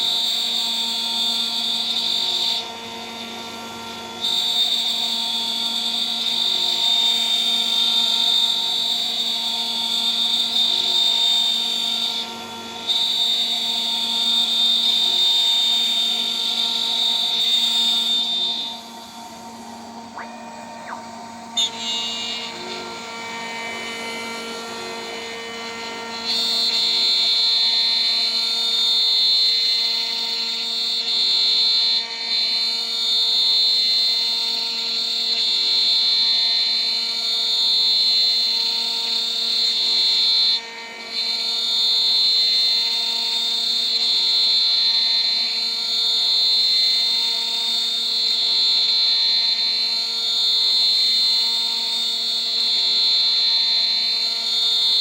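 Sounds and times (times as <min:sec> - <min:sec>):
cnc spindle high-pitched whine: 0:00.0 - 0:55.0.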